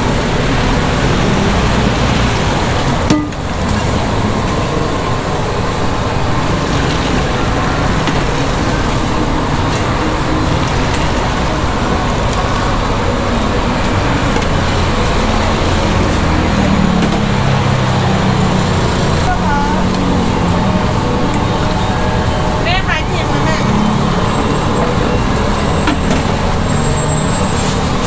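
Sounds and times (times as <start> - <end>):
street traffic passing: 0.0 - 28.0.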